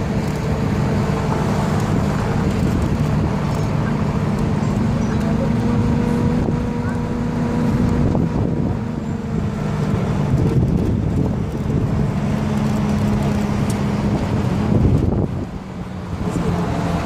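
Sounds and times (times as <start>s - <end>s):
bus engine hum: 0.0s - 17.0s
road noise: 0.0s - 17.0s
wind rushing over microphone: 0.0s - 17.0s.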